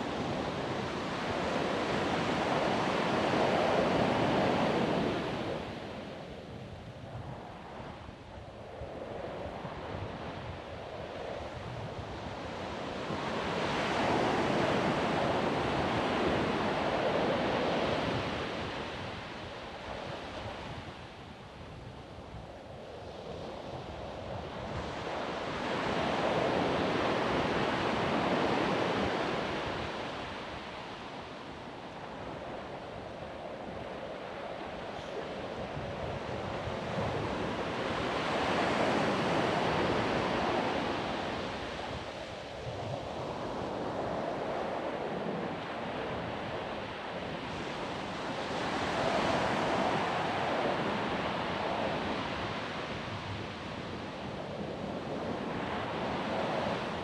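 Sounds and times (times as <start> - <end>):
ocean waves on sandy beach: 0.0 - 8.2, 8.8 - 21.6, 23.0 - 57.0.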